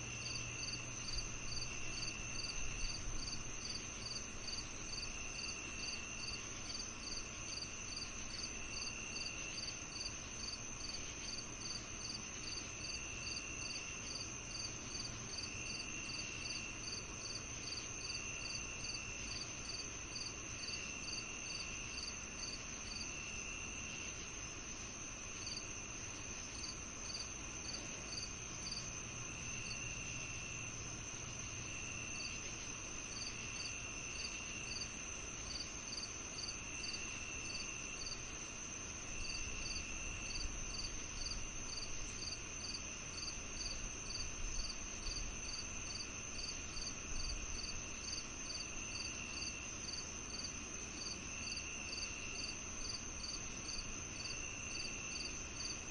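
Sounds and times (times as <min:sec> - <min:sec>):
cricket chirping: 0:00.0 - 0:55.9
high insect trill: 0:00.1 - 0:55.9.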